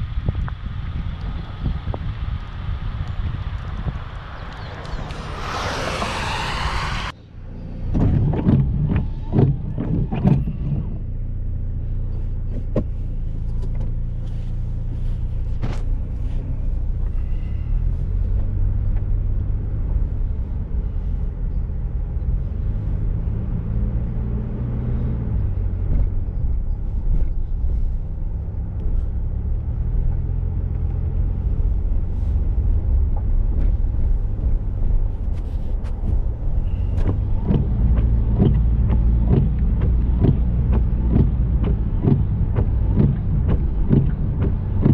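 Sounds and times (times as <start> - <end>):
car engine hum: 0.0 - 44.9
road noise: 0.0 - 44.9.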